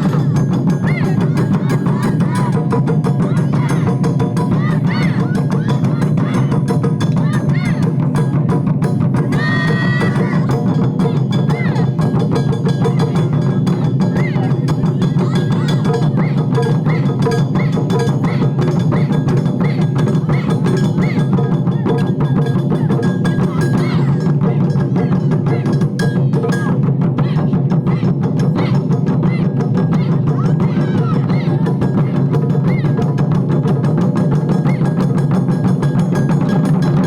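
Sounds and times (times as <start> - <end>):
ensemble drumming: 0.0 - 37.0.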